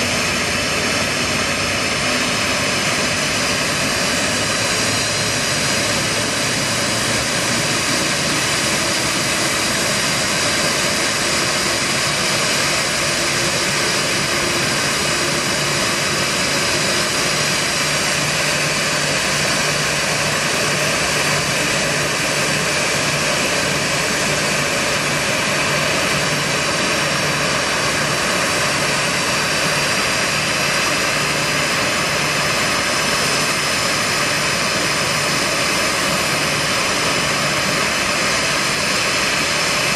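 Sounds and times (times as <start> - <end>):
jet engine idling: 0.0 - 39.9.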